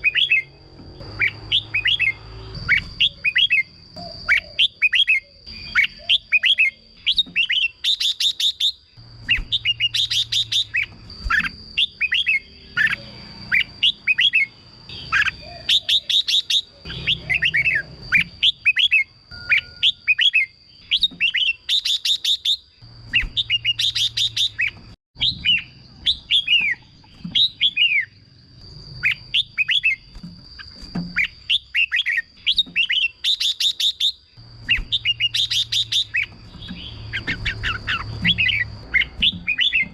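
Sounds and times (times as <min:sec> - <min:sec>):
bird singing whistled phrases: 0:01.2 - 0:28.2, 0:31.2 - 0:39.9.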